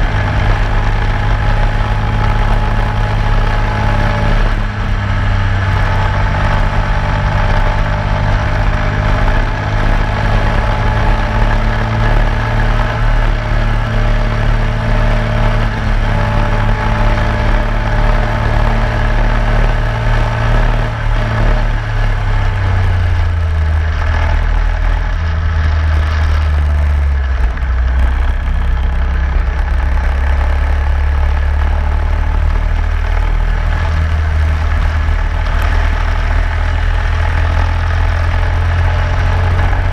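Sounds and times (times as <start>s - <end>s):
go-kart engine at speed: 0.0s - 39.9s.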